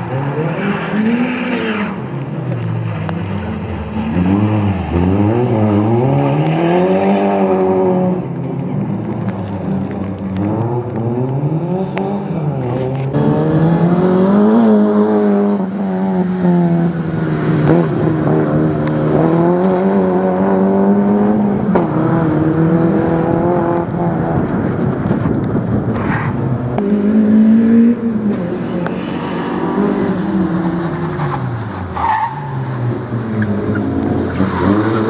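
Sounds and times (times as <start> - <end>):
rally car engine revving: 0.0 - 35.0.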